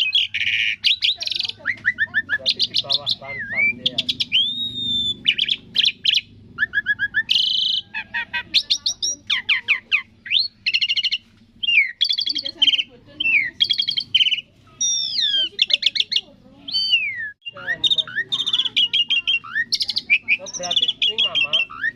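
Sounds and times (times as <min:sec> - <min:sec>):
starling singing: 0:00.0 - 0:21.9.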